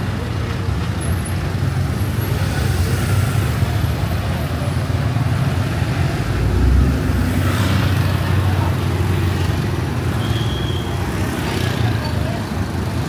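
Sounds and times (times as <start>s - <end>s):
cars and motorbikes passing: 0.0s - 13.0s.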